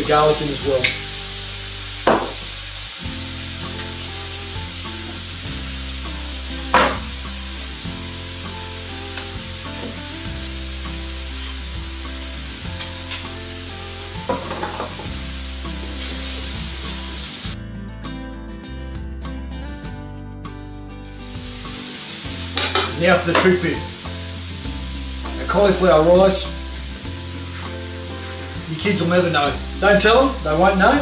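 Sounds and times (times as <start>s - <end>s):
food sizzling in a hot wok: 0.0s - 17.6s, 21.1s - 31.0s.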